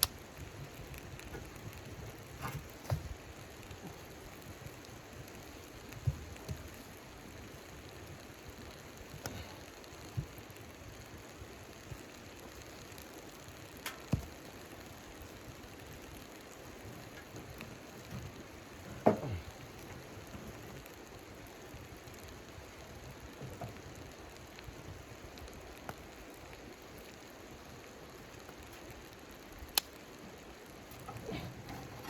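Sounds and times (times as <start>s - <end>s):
snow pattering on tent fabric: 0.0s - 32.0s
wood stove crackle: 0.0s - 32.0s.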